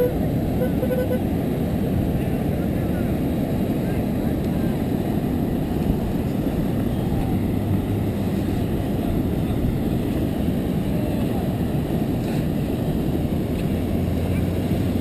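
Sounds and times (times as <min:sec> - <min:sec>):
vehicle engine droning: 0:00.0 - 0:15.0
wind on microphone: 0:00.0 - 0:15.0.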